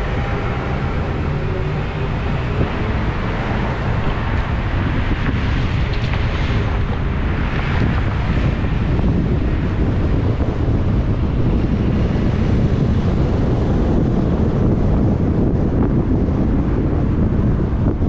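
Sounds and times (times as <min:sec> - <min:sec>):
car road noise: 0:00.0 - 0:18.0
wind rumble on microphone: 0:00.0 - 0:18.0.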